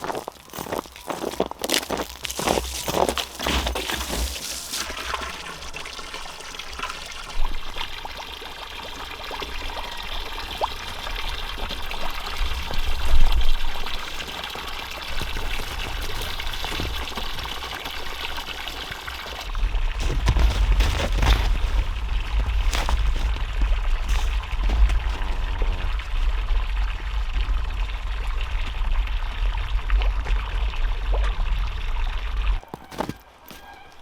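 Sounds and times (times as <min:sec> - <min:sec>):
water from hose splashing: 0:02.6 - 0:32.3.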